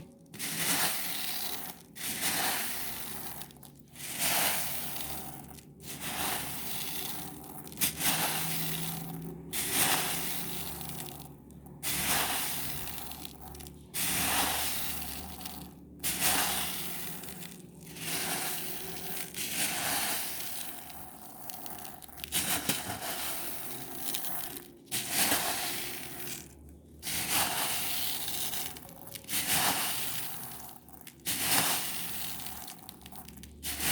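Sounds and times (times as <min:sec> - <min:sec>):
beads rattling: 0:00.0 - 0:33.9.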